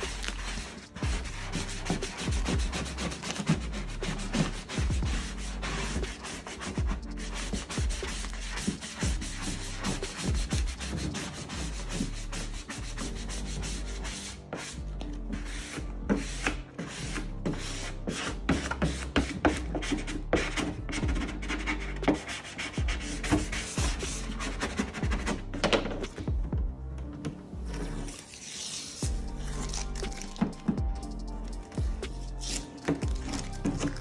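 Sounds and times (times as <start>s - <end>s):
squeegee scraping vinyl: 0.0s - 26.2s, 27.3s - 34.0s
background music: 0.0s - 34.0s.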